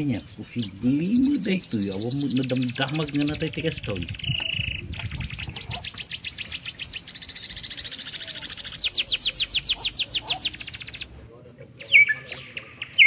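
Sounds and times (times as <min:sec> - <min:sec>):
birds singing in fast trills: 0:00.0 - 0:13.0.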